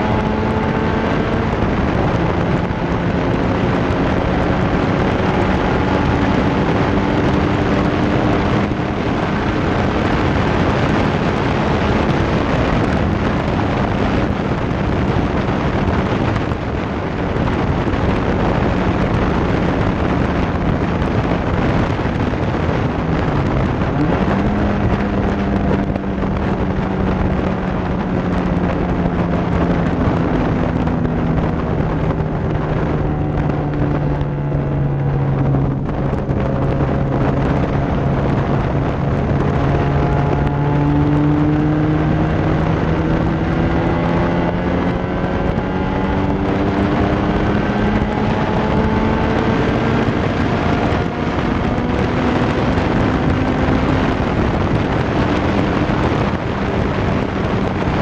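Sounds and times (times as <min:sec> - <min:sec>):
car engine running: 0:00.0 - 0:58.0
wind rush: 0:00.0 - 0:58.0.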